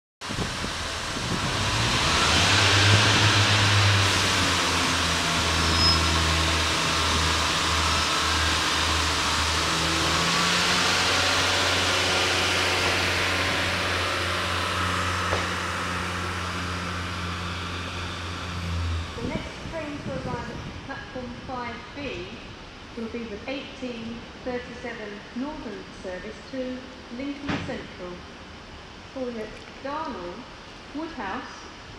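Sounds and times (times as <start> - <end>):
diesel train engines droning: 0.2 - 31.9.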